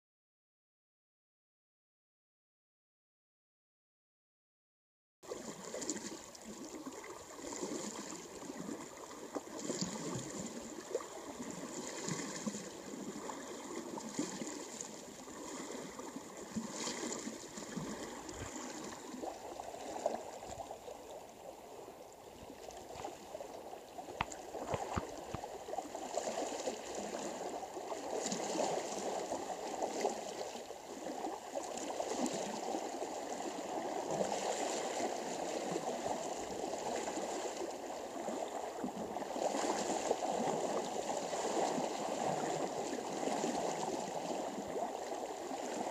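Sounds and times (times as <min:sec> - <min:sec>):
river water sloshing around legs: 0:05.3 - 0:45.9.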